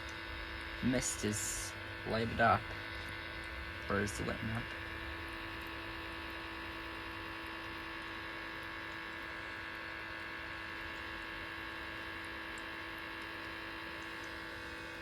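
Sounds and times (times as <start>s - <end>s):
humidifier electrical hum: 0.0s - 15.0s.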